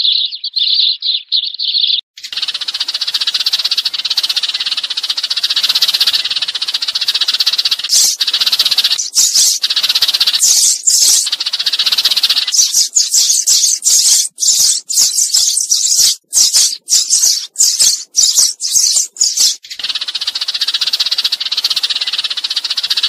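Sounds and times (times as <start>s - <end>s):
sparrows chattering: 0.0s - 23.0s.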